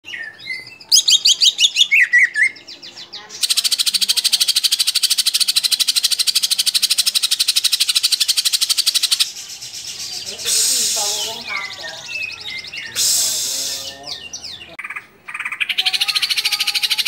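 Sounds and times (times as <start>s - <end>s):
bird singing: 0.0s - 17.0s
fast chattering bird trill: 0.1s - 17.0s.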